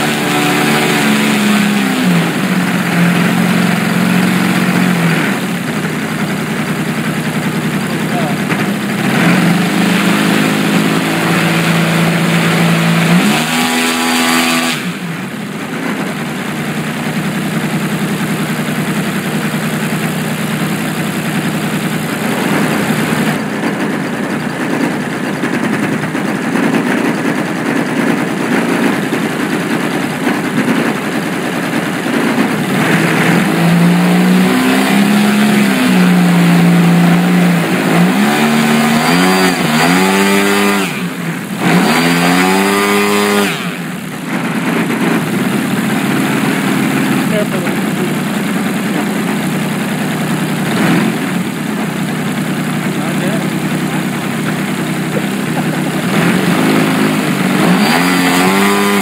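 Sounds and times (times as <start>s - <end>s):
model aircraft engine revving: 0.0s - 59.0s.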